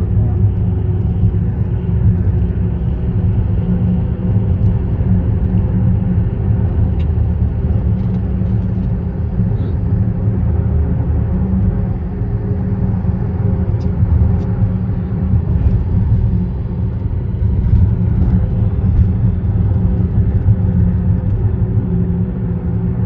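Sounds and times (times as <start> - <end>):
rumble of vehicles on bridge: 0.0 - 23.0.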